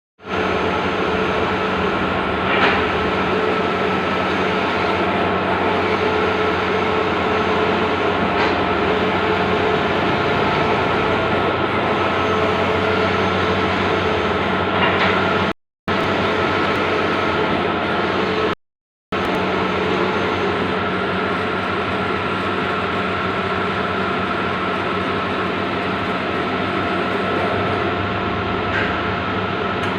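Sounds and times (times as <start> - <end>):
printer mechanical whir: 0.2 - 18.6, 19.2 - 29.9.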